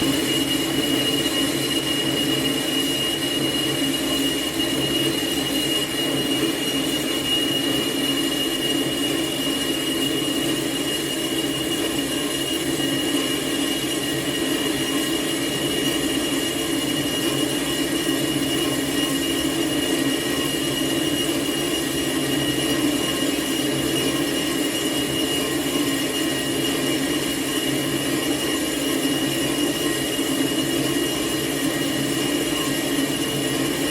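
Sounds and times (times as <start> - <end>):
lathe humming with high whine: 0.0 - 33.9.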